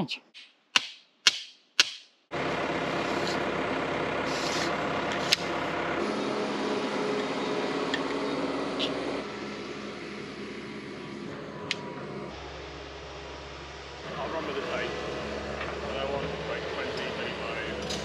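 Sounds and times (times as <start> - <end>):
excavator diesel engine running: 2.3 - 18.0.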